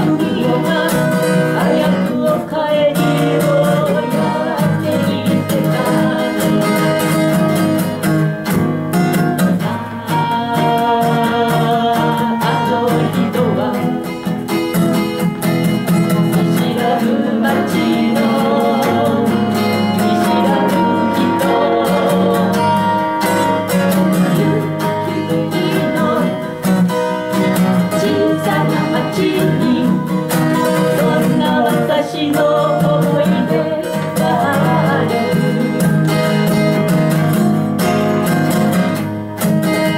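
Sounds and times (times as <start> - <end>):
acoustic guitars playing: 0.0 - 39.9
person singing folk song: 0.0 - 39.9.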